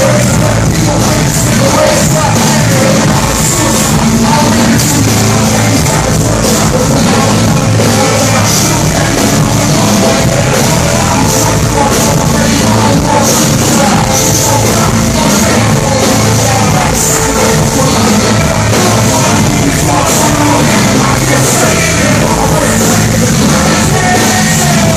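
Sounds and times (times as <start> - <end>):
live band playing: 0.0 - 24.9
person singing: 0.0 - 24.9.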